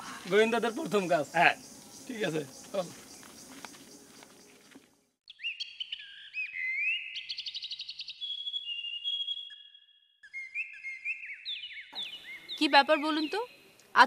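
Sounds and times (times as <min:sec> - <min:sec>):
birds chirping and whistling: 0:00.1 - 0:13.8
bird trill: 0:00.6 - 0:13.8.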